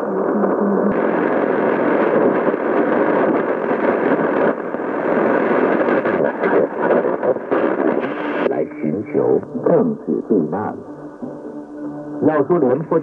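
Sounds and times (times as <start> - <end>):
radio crackles: 0.0 - 13.0
radio static hiss: 0.0 - 13.0.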